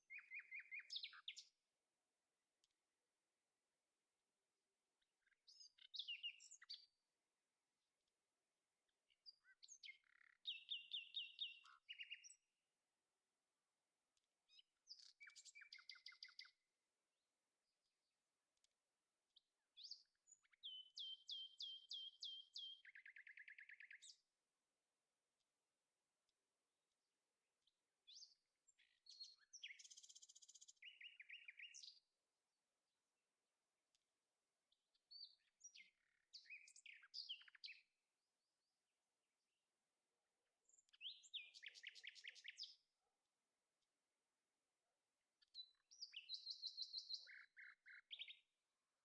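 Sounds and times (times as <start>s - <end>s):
songbird chirping: 0.0s - 39.6s, 40.4s - 43.1s, 43.8s - 49.0s.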